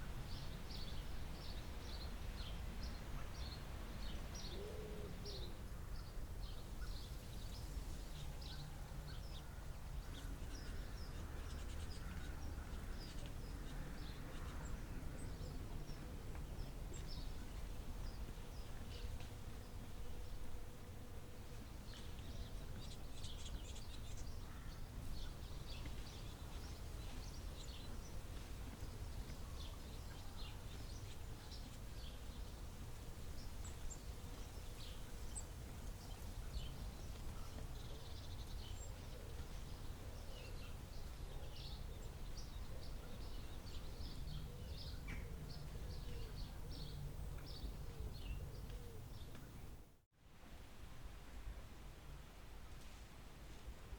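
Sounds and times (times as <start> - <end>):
songbirds chirping: 0.0 - 50.1.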